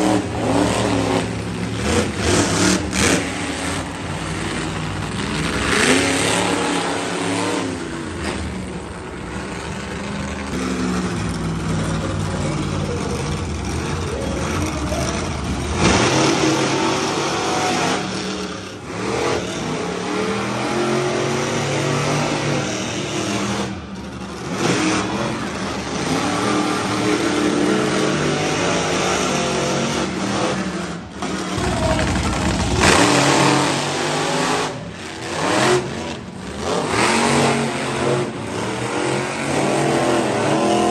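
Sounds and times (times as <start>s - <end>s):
truck engines revving hard: 0.0s - 40.9s.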